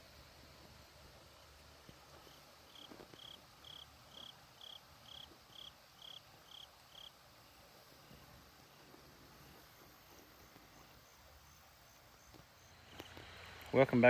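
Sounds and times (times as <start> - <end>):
faint cricket chirping: 0.0 - 13.6.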